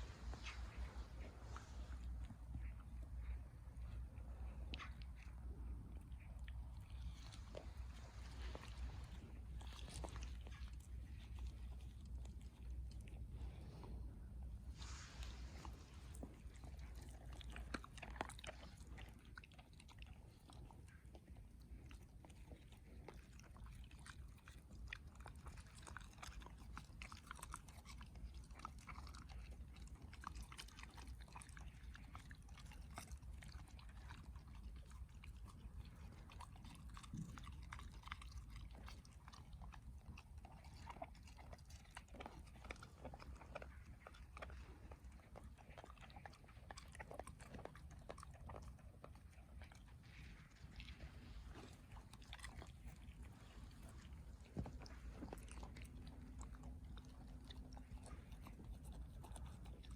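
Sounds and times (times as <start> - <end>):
dog chewing grass: 0.0 - 59.9.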